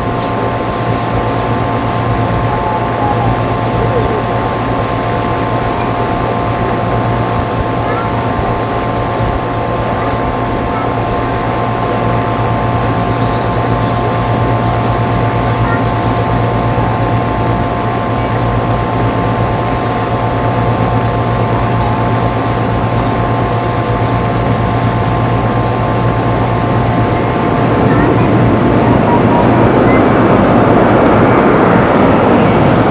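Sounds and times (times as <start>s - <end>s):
mechanical drone with high tones: 0.0s - 32.9s.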